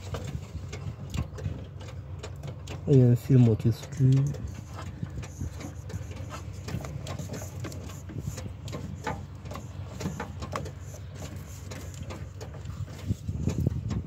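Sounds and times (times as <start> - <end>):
engine humming: 0.0 - 14.0
light clicks and knocks: 0.0 - 14.0.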